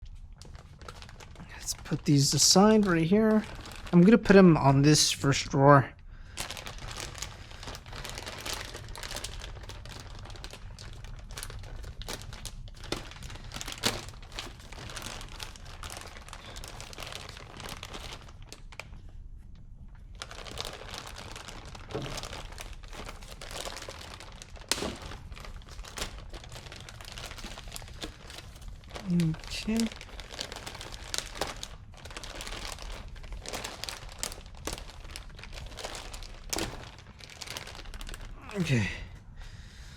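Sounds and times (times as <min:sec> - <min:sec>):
plastic packaging crinkling: 0:00.0 - 0:05.6, 0:06.2 - 0:19.2, 0:19.9 - 0:38.9.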